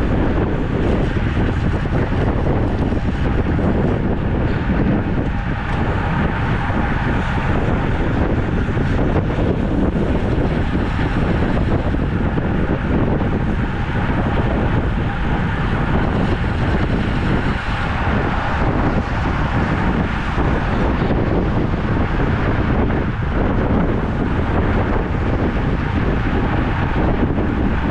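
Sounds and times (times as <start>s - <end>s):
wind on microphone: 0.0s - 27.9s.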